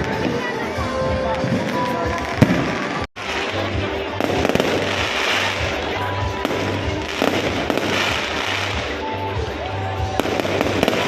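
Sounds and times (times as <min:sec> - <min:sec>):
fireworks bursting and crackling: 0:00.0 - 0:11.0
loud music with bass beat: 0:00.0 - 0:11.0.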